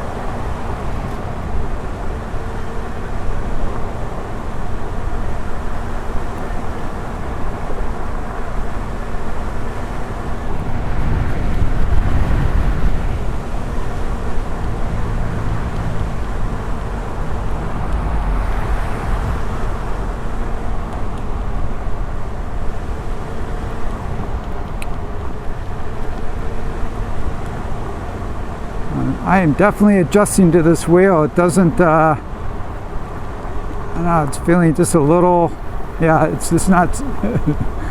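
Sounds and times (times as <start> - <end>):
wind rushing over microphone: 0.0 - 37.9.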